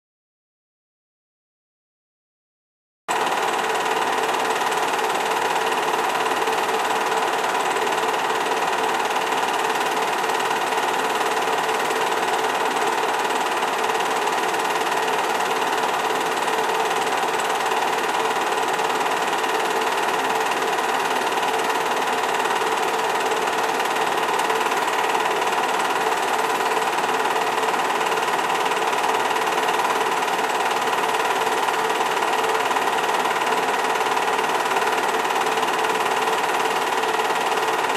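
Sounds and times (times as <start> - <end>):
film projector whirring: 3.1 - 37.9.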